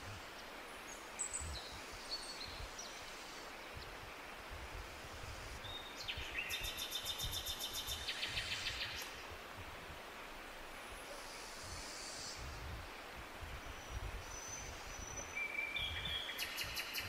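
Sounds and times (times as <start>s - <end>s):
steady forest hiss: 0.0s - 17.0s.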